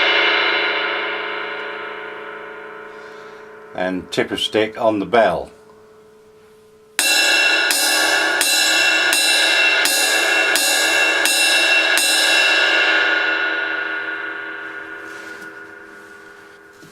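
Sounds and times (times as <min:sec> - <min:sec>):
cymbal bell hits: 0:00.0 - 0:04.2, 0:07.0 - 0:16.9
cymbal ringing: 0:00.0 - 0:16.9.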